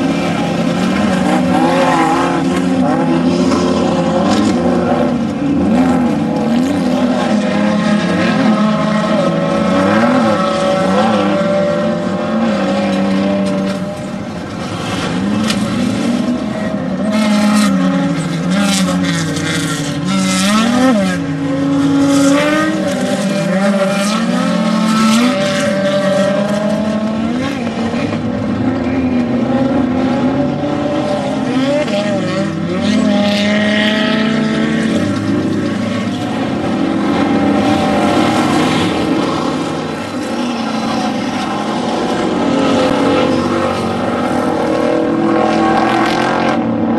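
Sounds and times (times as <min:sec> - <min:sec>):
engines revving hard: 0:00.0 - 0:46.9.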